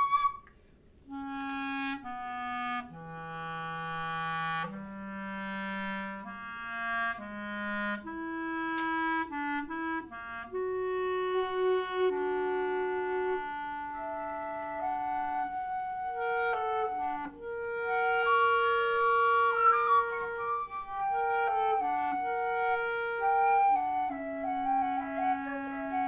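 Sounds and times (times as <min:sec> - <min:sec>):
clarinet: 0:00.0 - 0:26.0
flute: 0:00.0 - 0:26.0.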